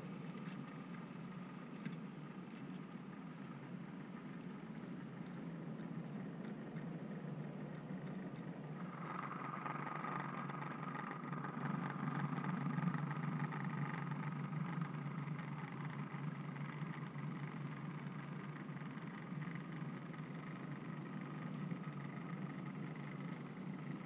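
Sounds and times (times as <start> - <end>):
model train hum: 0.0 - 24.0
wheels ticking on rails: 0.0 - 24.0.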